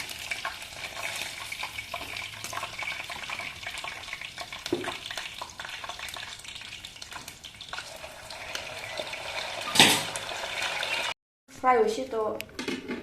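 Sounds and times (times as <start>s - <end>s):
food sizzling in hot oil: 0.0s - 11.2s.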